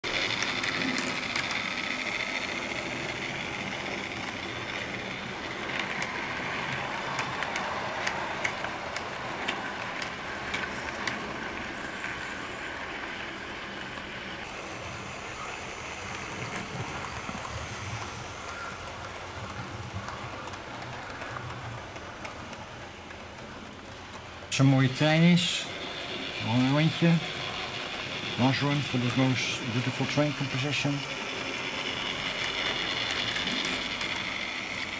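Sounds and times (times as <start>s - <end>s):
model train wheels and motors hissing: 0.0s - 34.9s
wheels clicking over rails: 0.0s - 34.9s.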